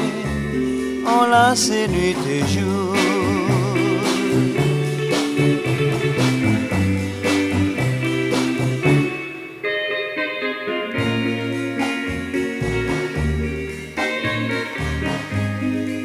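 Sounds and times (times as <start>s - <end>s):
bass notes: 0.0s - 9.6s, 10.6s - 16.0s
steady beat: 0.0s - 9.6s, 10.9s - 16.0s
wavering guitar melody: 0.0s - 16.0s.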